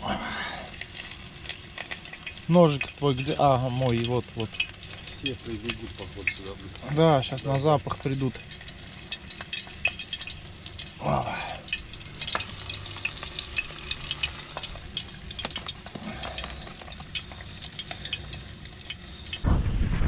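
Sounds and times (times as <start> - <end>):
fish frying in hot oil: 0.0 - 19.4.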